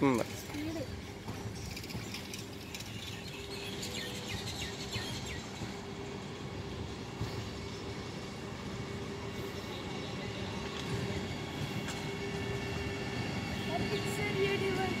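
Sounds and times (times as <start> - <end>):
constant hum: 0.0 - 15.0
train wheels rumbling on rails: 0.0 - 15.0.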